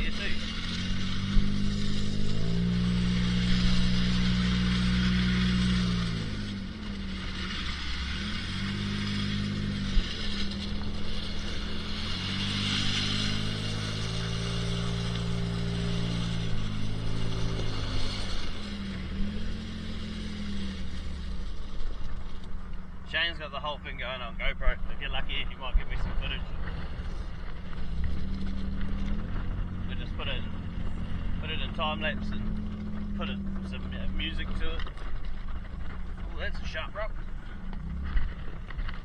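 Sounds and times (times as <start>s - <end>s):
truck engine revving: 0.0s - 39.0s
tyres crunching over gravel: 0.0s - 39.0s.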